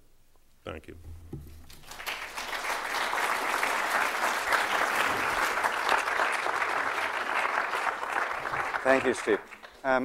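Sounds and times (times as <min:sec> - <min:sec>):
audience applauding: 0:01.7 - 0:10.0.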